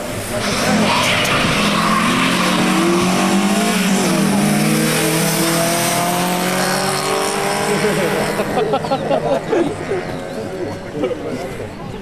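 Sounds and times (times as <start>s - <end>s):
car engines revving hard: 0.0s - 11.7s.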